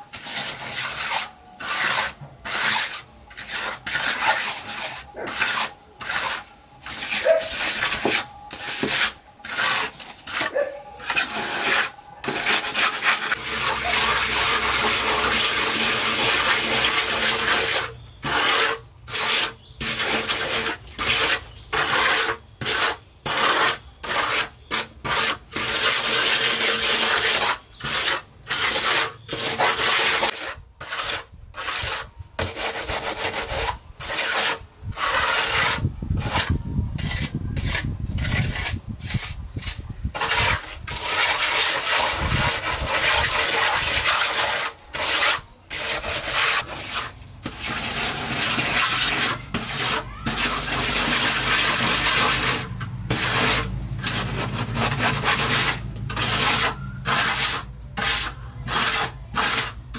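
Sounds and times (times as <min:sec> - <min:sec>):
trowel scraping wet mortar: 0:00.0 - 0:59.9.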